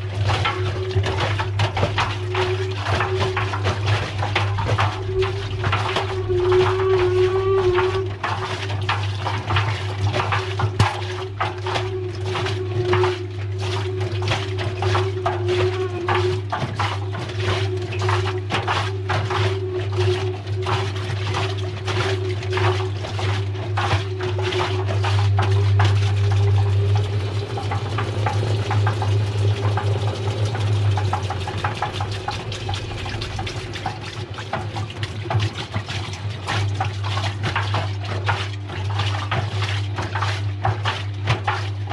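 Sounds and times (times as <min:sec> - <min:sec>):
washing machine motor hum: 0:00.0 - 0:41.9
water sloshing in washing machine: 0:00.0 - 0:41.9.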